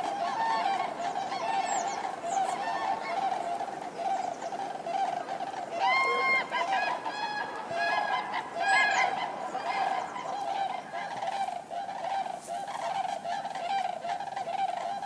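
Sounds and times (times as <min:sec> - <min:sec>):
cranes trumpeting calls: 0:00.0 - 0:15.0.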